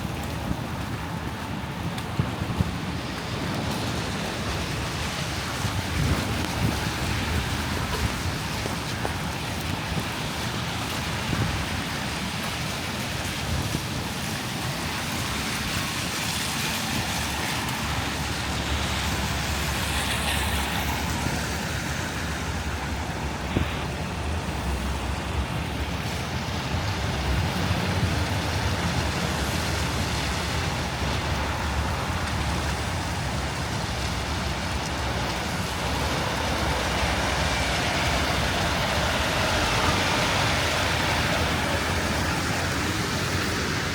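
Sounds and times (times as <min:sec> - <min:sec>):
city street traffic: 0:00.0 - 0:43.9
wind rumble on microphone: 0:00.0 - 0:43.9.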